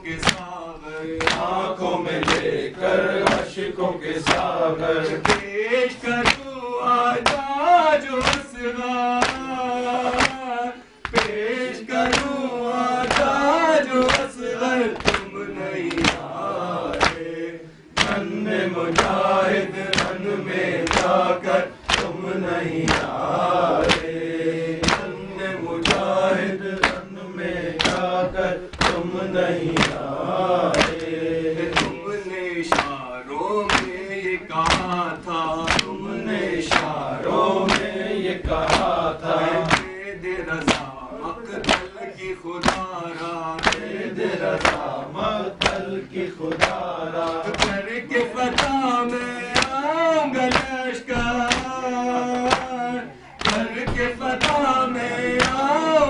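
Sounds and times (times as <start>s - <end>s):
men chanting: 0.0s - 56.0s
rhythmic chest-beating strikes: 0.0s - 56.0s.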